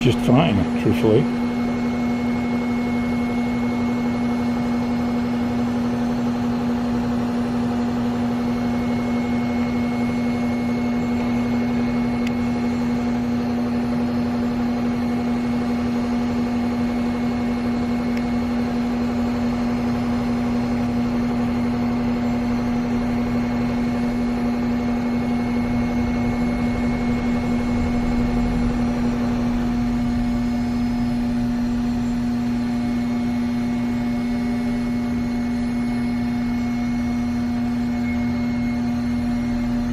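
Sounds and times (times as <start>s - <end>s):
cnc machine humming: 0.0s - 39.9s.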